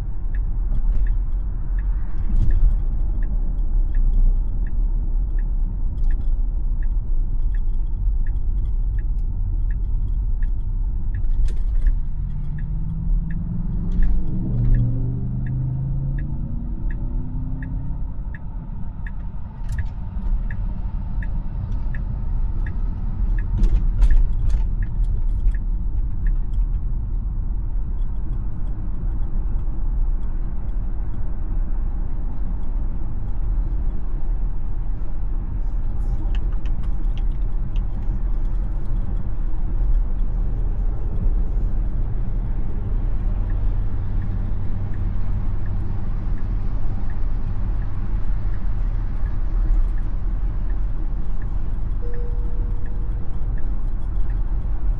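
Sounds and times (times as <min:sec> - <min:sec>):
low rising hum: 0:00.0 - 0:36.2, 0:37.5 - 0:54.9
road and tyre rumble: 0:00.0 - 0:54.9
turn signal ticking: 0:00.0 - 0:54.9.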